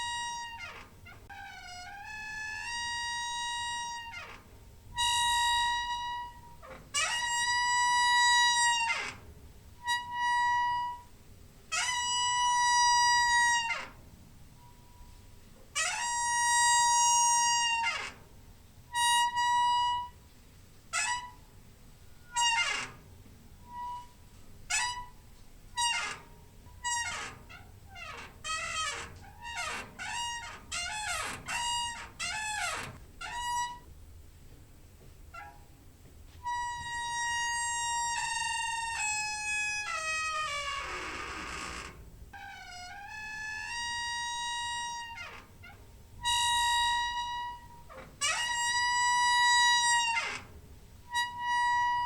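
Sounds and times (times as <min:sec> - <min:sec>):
squeaky door hinge creaking: 0:00.0 - 0:14.0, 0:14.6 - 0:20.2, 0:20.9 - 0:33.9, 0:35.3 - 0:35.8, 0:36.4 - 0:52.0.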